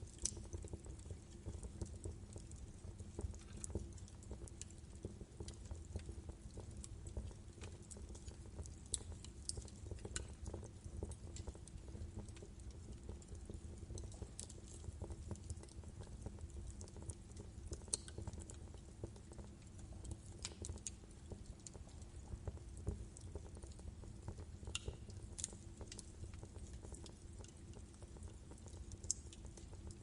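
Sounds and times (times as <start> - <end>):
logs crackling in fireplace: 0.0 - 30.0.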